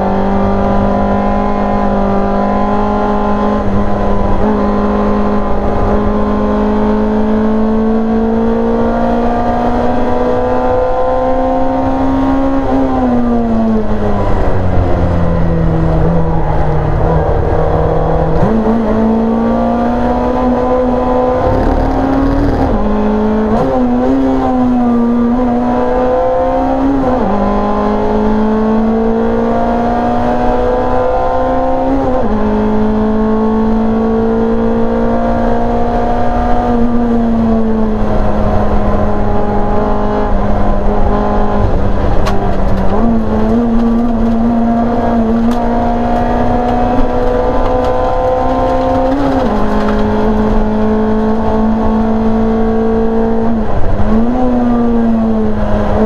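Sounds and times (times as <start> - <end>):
race car engine revving through gears: 0.0 - 56.0.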